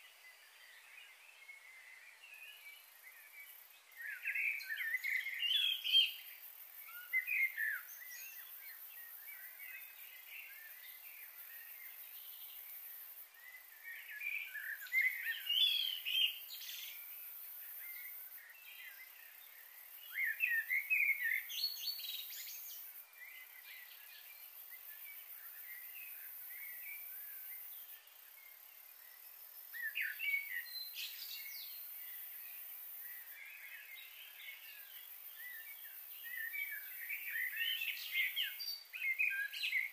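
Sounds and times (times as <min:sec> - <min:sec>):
faint steady hiss: 0:00.0 - 0:39.9
small birds chirping: 0:00.0 - 0:39.9.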